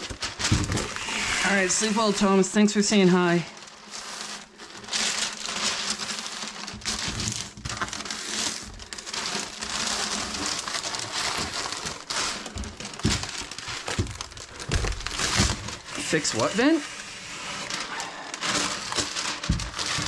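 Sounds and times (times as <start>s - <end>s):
crinkling and rustling: 0.0s - 20.0s.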